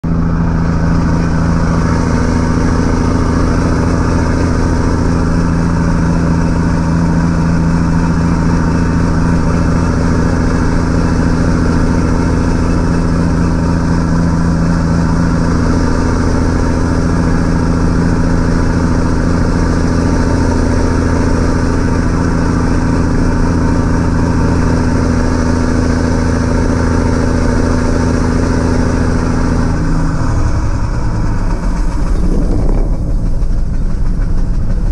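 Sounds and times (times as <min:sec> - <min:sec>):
diesel truck engine running: 0:00.0 - 0:34.9
loud straight-piped exhaust: 0:00.0 - 0:34.9.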